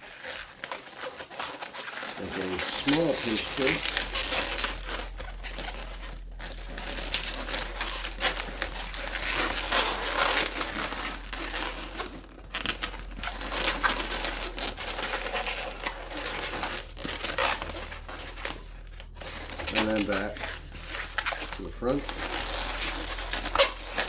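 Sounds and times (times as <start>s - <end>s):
balloons rubbing scratchily: 0.0s - 24.0s.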